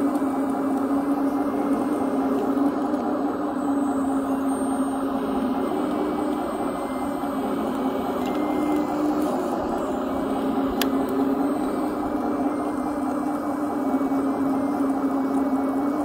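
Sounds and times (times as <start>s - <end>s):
small electric motor whining: 0.0s - 16.0s.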